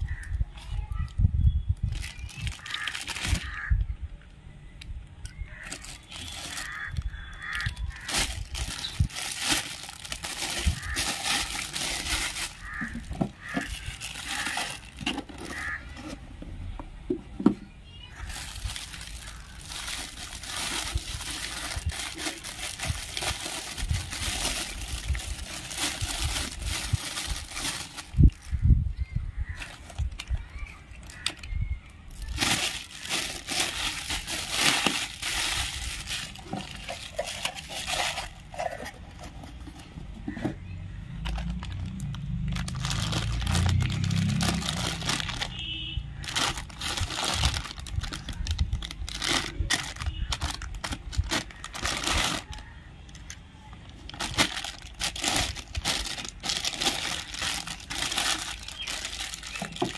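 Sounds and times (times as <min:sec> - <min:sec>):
plastic bags crinkling: 0:01.8 - 0:03.7, 0:05.5 - 0:16.2, 0:18.0 - 0:28.6, 0:29.5 - 0:40.4, 0:41.2 - 0:59.9.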